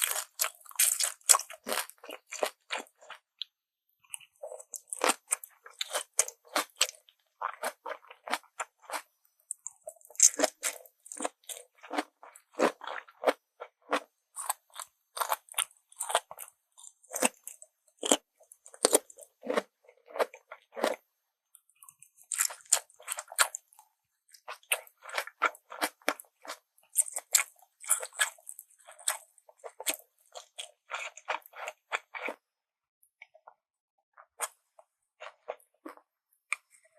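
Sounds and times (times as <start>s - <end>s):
person chewing crunchy food: 0.0s - 32.4s, 34.2s - 36.9s.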